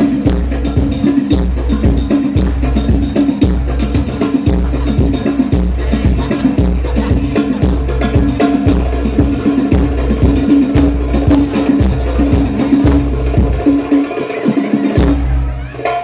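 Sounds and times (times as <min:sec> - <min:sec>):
deep drum beats: 0:00.0 - 0:16.0
hand drum percussion: 0:00.0 - 0:16.0.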